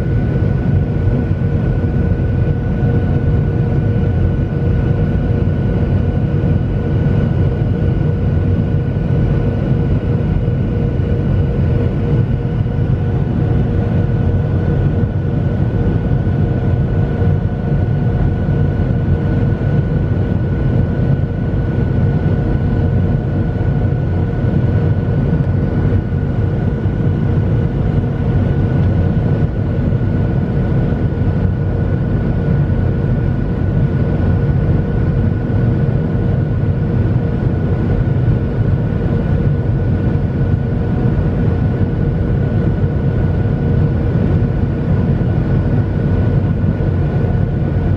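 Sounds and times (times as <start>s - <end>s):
jet engines low rumble: 0.0s - 47.9s.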